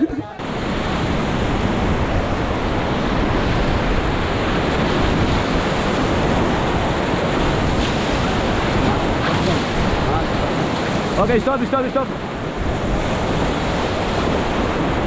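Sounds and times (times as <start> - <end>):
whitewater rushing: 0.0 - 15.0
wind on microphone: 0.0 - 15.0.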